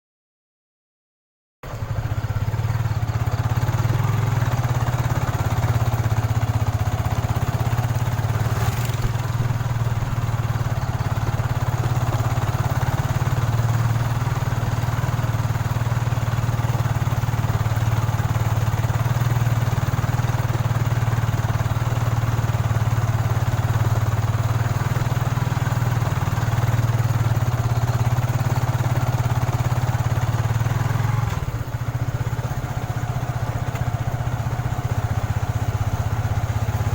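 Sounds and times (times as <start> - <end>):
motorcycle engine running: 1.6 - 36.9.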